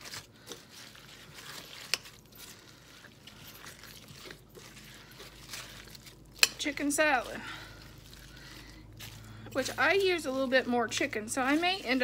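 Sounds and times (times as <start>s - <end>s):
moist mixing in glass bowl: 0.0s - 12.0s.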